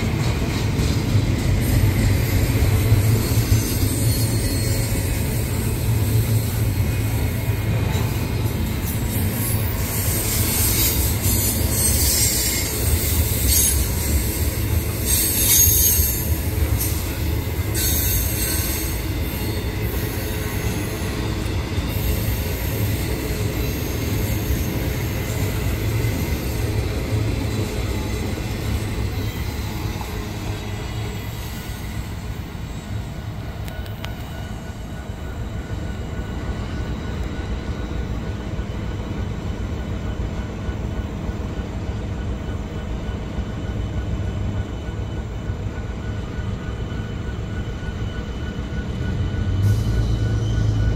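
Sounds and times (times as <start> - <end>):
train wheels rumbling on rail: 0.0 - 50.9
wheel flange squeal: 0.6 - 39.5, 46.0 - 50.9.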